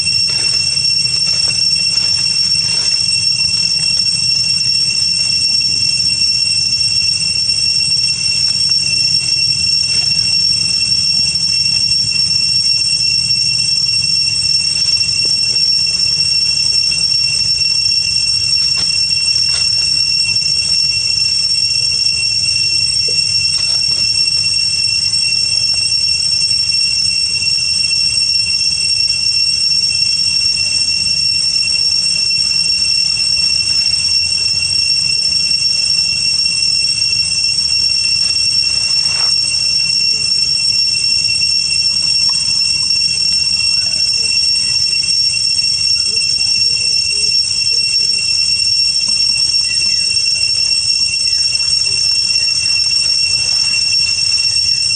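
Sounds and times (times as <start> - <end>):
cicada chorus whining: 0.0 - 54.9.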